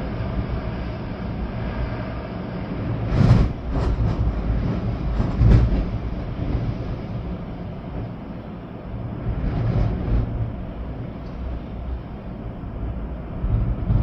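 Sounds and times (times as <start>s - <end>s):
rain: 0.0s - 14.0s
storm wind gusting: 0.0s - 14.0s.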